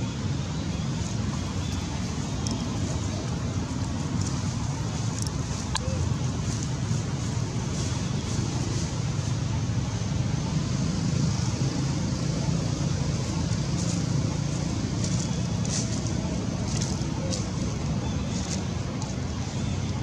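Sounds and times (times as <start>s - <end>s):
outdoor rumble and hiss: 0.0s - 20.0s.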